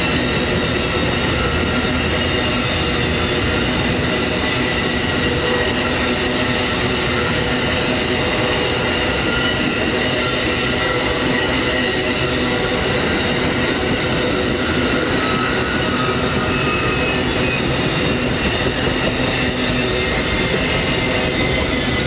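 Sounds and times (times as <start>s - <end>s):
thin whining tones: 0.0s - 22.0s
train wheels rumbling on rail: 0.0s - 22.0s.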